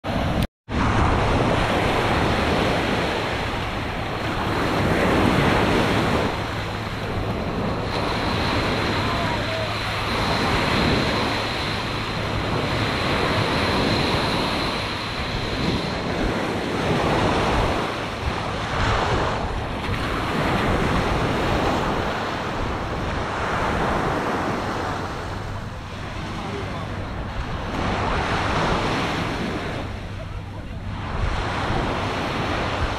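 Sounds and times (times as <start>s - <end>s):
ocean surf washing on beach: 0.0s - 32.9s
wind buffeting microphone: 0.0s - 32.9s.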